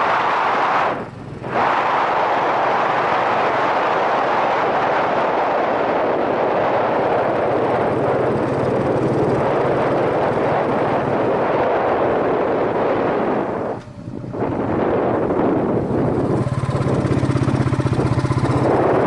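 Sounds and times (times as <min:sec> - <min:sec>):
wind rushing over microphone: 0:00.0 - 0:19.0
motorcycle engine running: 0:01.0 - 0:04.6, 0:05.5 - 0:19.0.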